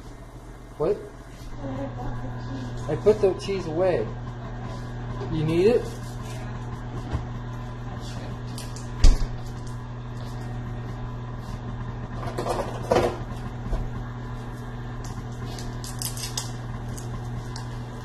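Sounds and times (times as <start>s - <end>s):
stand mixer motor hum: 2.1s - 18.0s.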